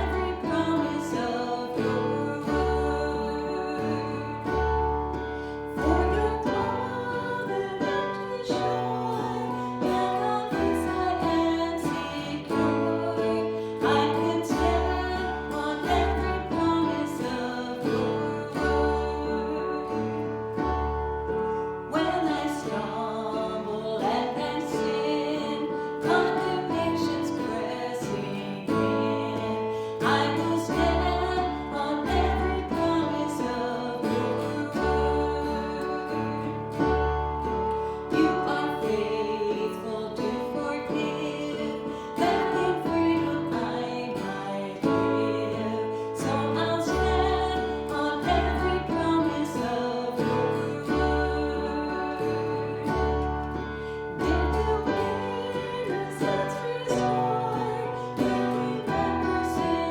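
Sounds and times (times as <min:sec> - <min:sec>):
acoustic guitar music: 0:00.0 - 0:59.9.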